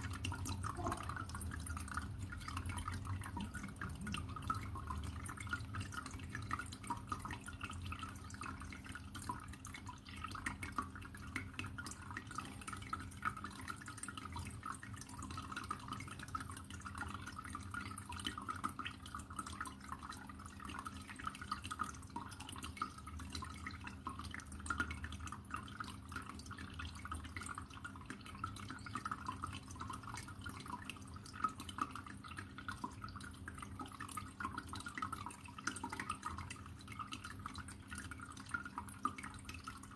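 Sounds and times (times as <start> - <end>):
aquarium water trickling: 0.0 - 39.9
low steady hum: 0.0 - 39.9.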